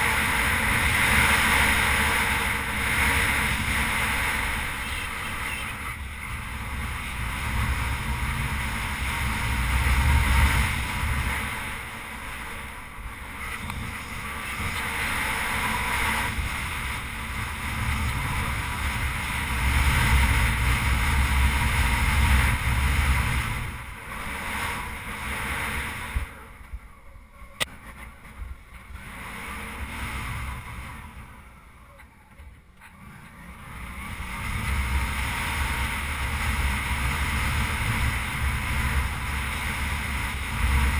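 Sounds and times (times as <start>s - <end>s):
motorcycle engine running: 0.0s - 26.6s, 27.7s - 40.9s
wind rush on microphone: 0.0s - 31.8s, 33.0s - 40.9s.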